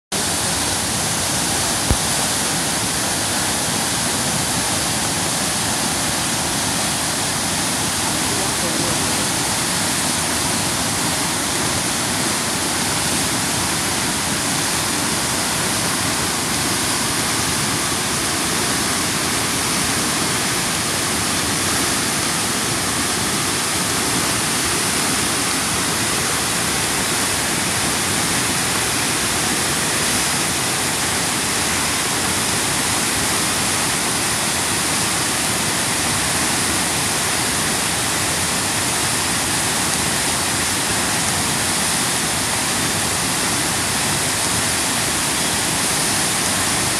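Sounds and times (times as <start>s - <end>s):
river rushing over rapids: 0.1s - 46.9s.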